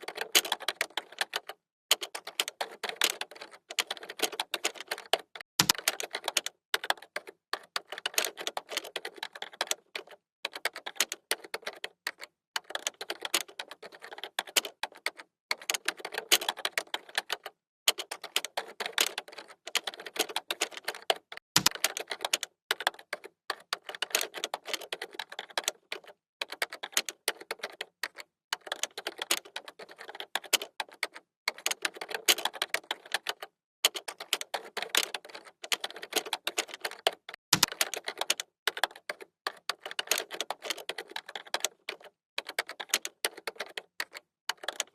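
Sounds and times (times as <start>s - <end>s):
computer keyboard typing: 0.0s - 44.9s.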